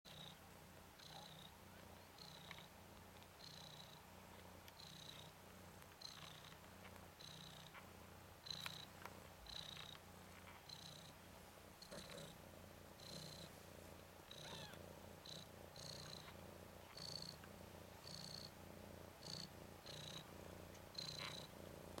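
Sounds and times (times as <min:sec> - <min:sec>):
cat purring: 0:00.1 - 0:22.0.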